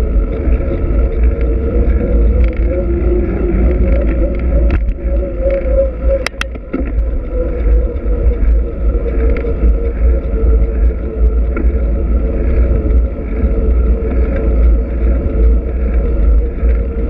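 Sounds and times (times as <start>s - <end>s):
faint wavering hum: 0.0s - 17.0s
wind rumbling on microphone: 0.0s - 17.0s.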